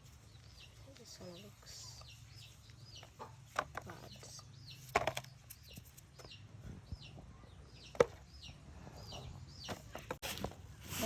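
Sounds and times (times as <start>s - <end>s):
bird chirping: 0.0s - 10.8s.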